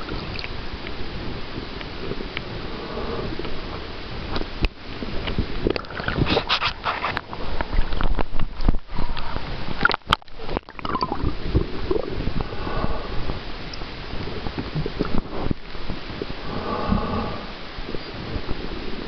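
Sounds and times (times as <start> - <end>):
water rushing and sloshing: 0.0 - 19.0.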